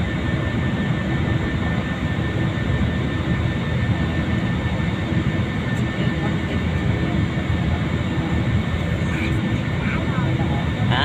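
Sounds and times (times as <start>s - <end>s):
airliner engine rumble: 0.0s - 11.0s
faint steady whine: 0.0s - 11.0s.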